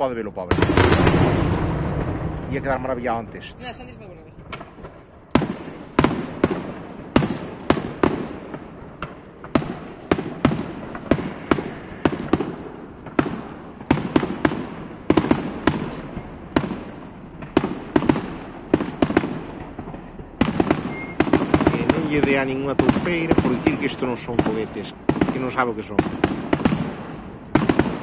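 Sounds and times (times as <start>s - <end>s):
firework shells bursting: 0.5s - 3.8s, 4.4s - 24.4s.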